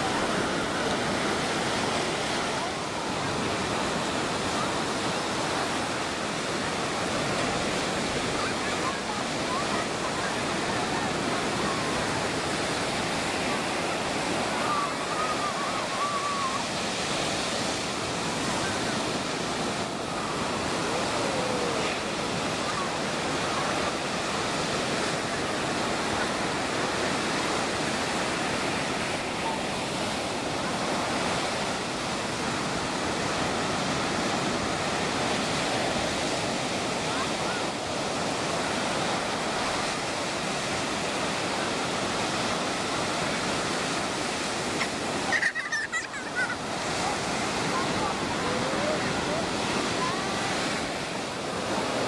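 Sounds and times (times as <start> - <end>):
ocean surf on sandy beach: 0.0 - 52.0.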